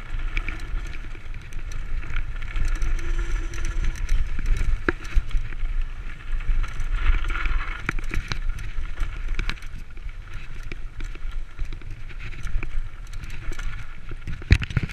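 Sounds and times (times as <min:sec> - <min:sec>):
bike rattles and clicks: 0:00.0 - 0:14.9
low bike rumble: 0:00.0 - 0:14.9.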